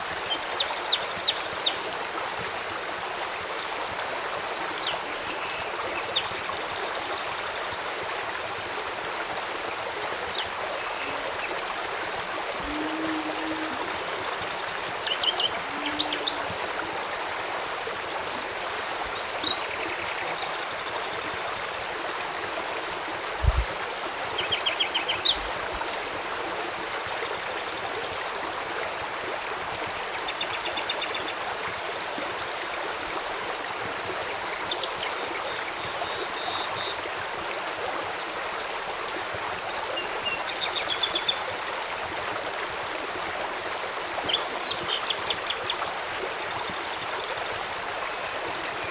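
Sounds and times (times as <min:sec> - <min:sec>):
river flowing: 0:00.0 - 0:48.9.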